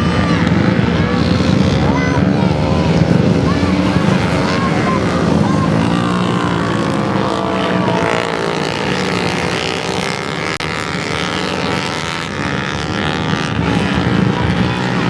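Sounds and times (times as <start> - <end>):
racing motorcycle engines: 0.0 - 15.0.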